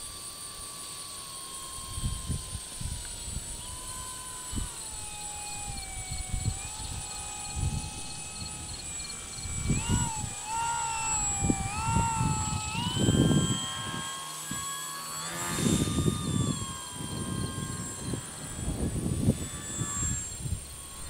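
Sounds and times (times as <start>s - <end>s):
rc airplane electric motor whine: 0.0s - 21.0s
wind buffeting microphone: 1.9s - 14.7s, 15.5s - 21.0s.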